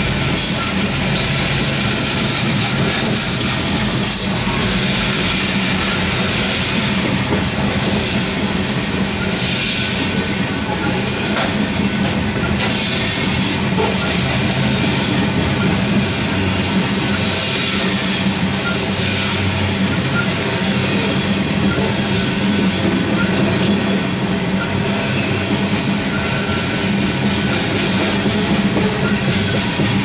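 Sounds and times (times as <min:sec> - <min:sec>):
freight train wheels clacking: 0:00.0 - 0:30.0.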